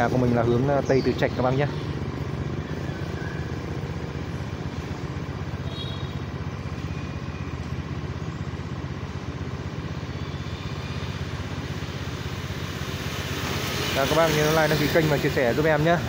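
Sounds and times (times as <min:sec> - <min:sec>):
motorbike engine idling: 0:00.0 - 0:16.0.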